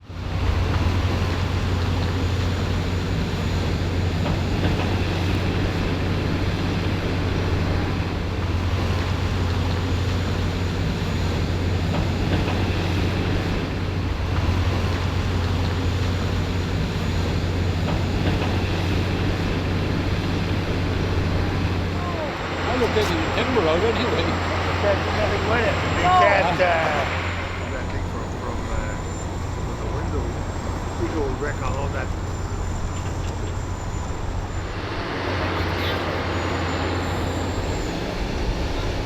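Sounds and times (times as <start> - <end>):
excavator diesel engine drone: 0.0 - 39.0.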